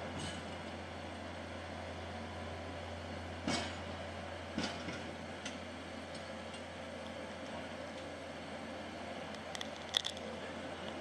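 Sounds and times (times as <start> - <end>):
diesel motor car droning: 0.0 - 11.0.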